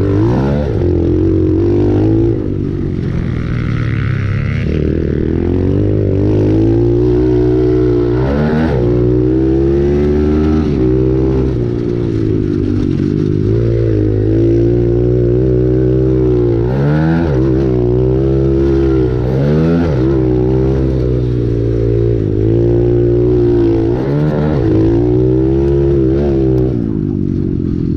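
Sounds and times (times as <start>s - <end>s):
pit bike engine revving: 0.0s - 27.3s.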